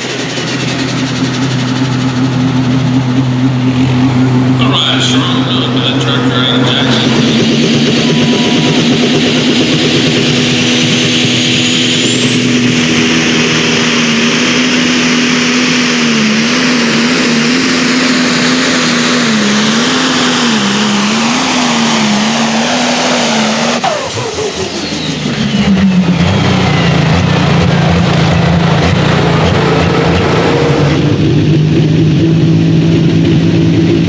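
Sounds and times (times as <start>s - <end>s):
pulling vehicle engine under load: 0.0s - 34.0s.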